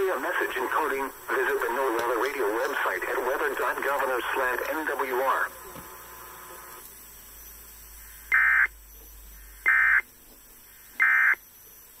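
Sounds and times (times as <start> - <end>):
buzzy digital data tones: 0.0 - 12.0
faint radio hiss: 0.0 - 12.0.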